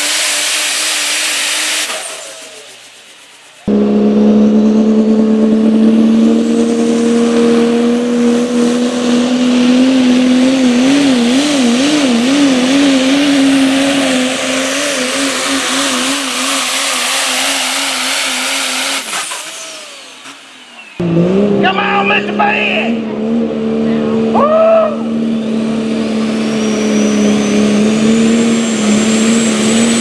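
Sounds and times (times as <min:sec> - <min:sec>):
diesel truck engine at full throttle: 0:00.0 - 0:30.0.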